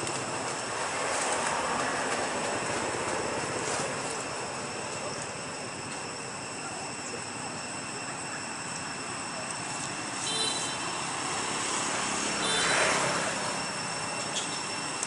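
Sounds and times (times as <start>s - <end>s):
broad rush of noise: 0.0s - 15.0s
steady noisy background: 0.0s - 15.0s
high-pitched steady tones: 1.6s - 15.0s.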